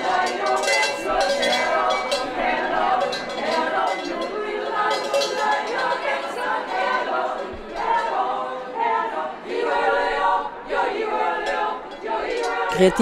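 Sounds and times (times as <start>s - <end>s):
women's choir singing a cappella: 0.0s - 13.0s.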